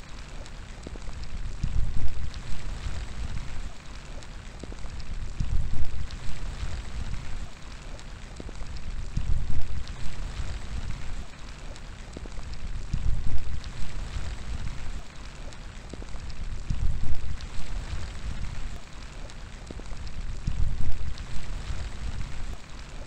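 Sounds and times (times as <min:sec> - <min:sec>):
raindrops ticking close by: 0:00.0 - 0:23.0
steady rain falling: 0:00.0 - 0:23.0
wind gusts rumbling: 0:00.8 - 0:03.8, 0:04.6 - 0:07.6, 0:08.4 - 0:15.1, 0:15.8 - 0:18.8, 0:19.6 - 0:22.8.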